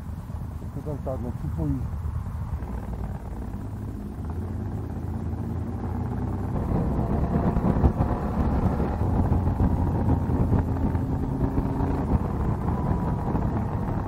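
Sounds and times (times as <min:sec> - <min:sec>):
low wind rumble: 0:00.0 - 0:14.0
motorcycle engine accelerating: 0:01.8 - 0:14.0.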